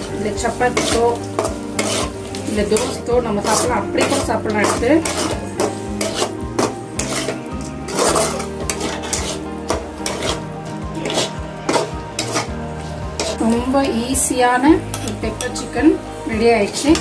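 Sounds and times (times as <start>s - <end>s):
metal ladle scraping metal pan: 0.0s - 14.0s, 14.8s - 17.0s.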